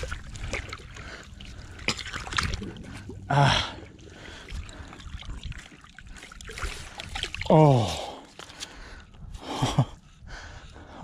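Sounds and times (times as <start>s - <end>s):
slush and ice crackling and sloshing: 0.0s - 9.3s.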